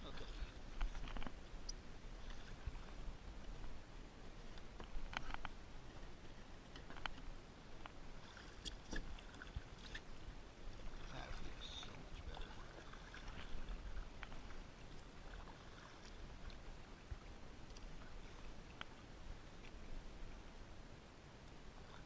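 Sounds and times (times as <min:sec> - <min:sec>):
water splashing against kayak hull: 0:00.0 - 0:20.4.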